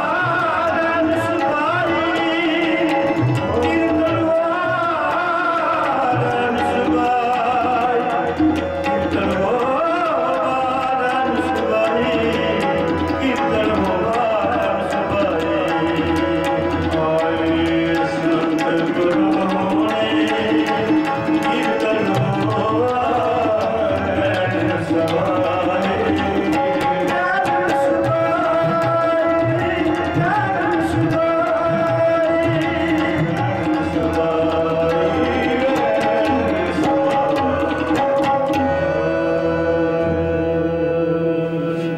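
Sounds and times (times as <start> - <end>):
harmoniums playing melody: 0.0 - 41.9
tabla drumming: 0.0 - 41.9.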